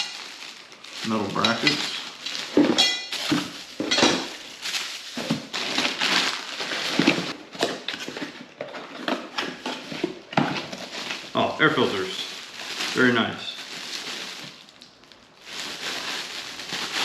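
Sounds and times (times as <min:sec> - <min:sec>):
packaging rustling: 0:00.0 - 0:17.0.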